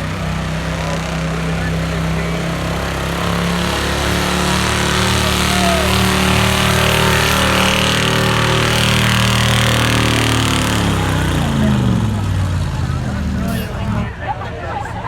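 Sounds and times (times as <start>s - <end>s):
truck engine running under load: 0.0s - 15.0s.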